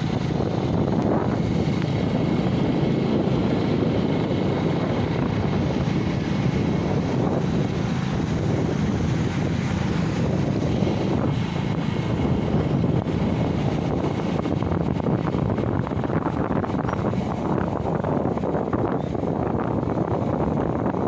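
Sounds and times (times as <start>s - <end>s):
sea waves rushing: 0.0s - 21.0s
wind buffeting microphone: 0.0s - 21.0s.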